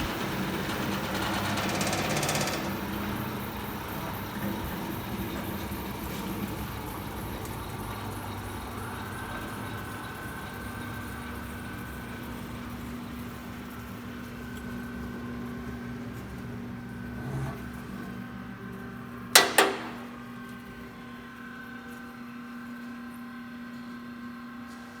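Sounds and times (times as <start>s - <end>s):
sanding machine motor hum: 0.1s - 23.2s.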